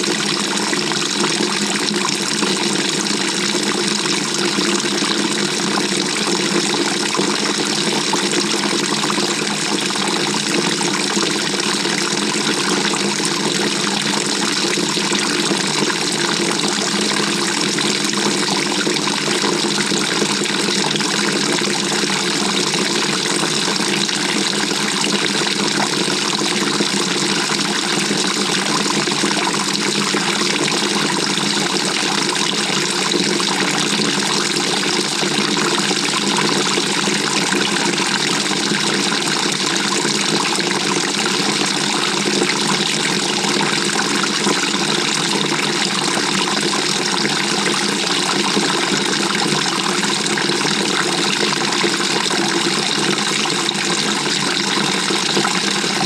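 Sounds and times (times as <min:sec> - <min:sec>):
water rushing in washing machine: 0:00.0 - 0:56.0.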